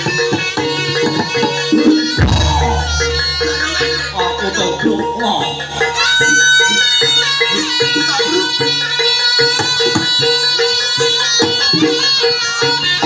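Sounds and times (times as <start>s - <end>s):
gamelan percussion: 0.0s - 13.0s
hand drums: 0.0s - 13.0s
reedy shawm melody: 0.1s - 11.3s.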